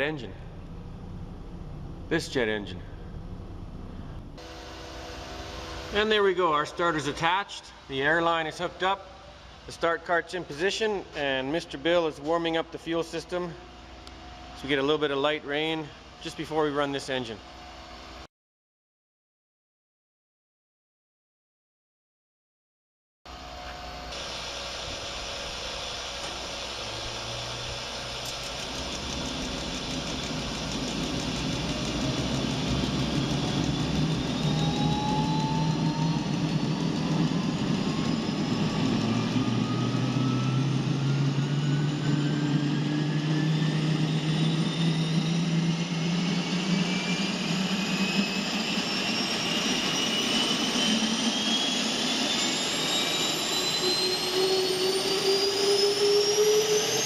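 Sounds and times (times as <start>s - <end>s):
jet engine spooling up: 0.0s - 18.3s, 23.3s - 57.0s.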